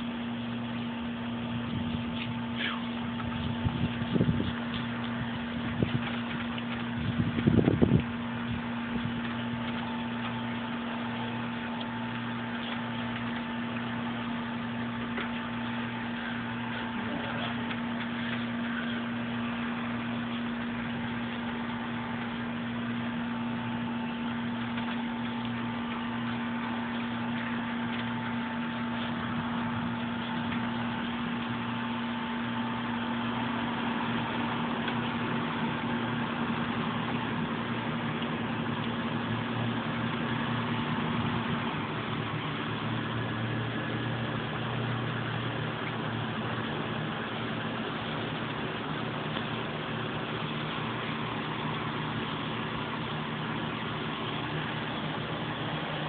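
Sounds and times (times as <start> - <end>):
constant hiss: 0.0 - 56.0
machine hum: 0.0 - 56.0.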